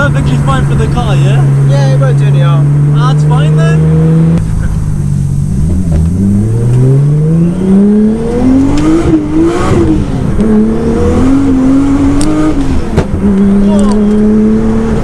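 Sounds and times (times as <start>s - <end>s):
car engine revving: 0.0s - 15.0s
exhaust crackles and pops: 0.0s - 15.0s.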